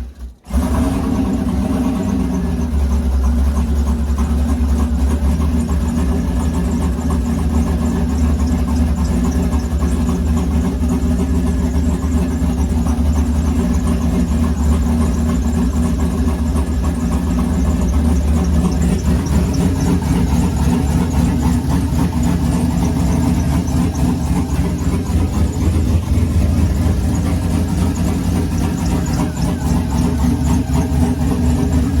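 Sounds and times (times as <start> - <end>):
turbocharged engine running: 0.0 - 32.0.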